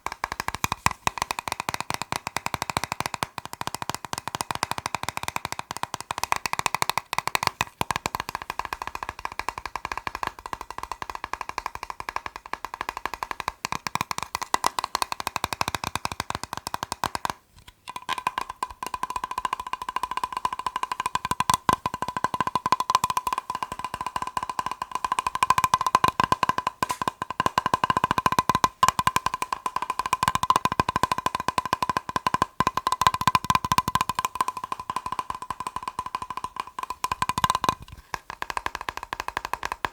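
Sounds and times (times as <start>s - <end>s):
fast tapping on plastic box: 0.0s - 39.9s.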